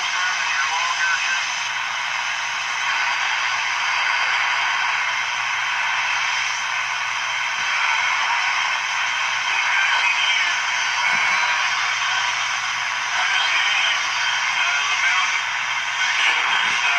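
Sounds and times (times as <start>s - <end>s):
radio static hiss: 0.0s - 16.9s.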